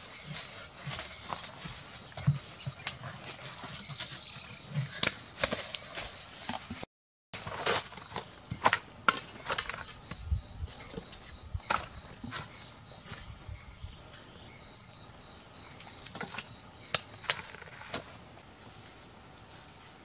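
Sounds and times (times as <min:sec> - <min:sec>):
insects chirring: 0:00.0 - 0:06.8, 0:07.4 - 0:20.0.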